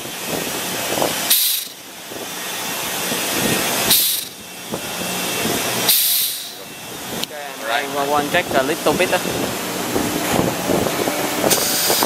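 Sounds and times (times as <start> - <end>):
air venting in hissing bursts: 0.0 - 7.3, 7.9 - 12.0.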